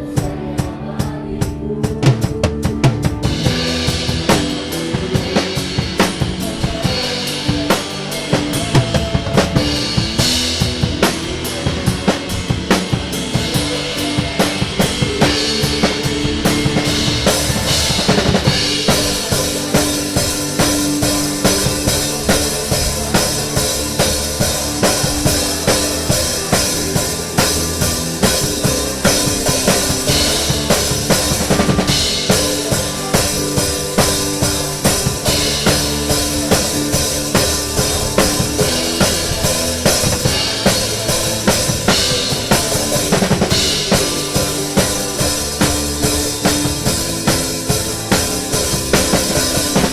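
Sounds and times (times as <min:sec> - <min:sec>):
band playing: 0:00.0 - 0:49.9
drum kit playing a beat: 0:00.0 - 0:49.9.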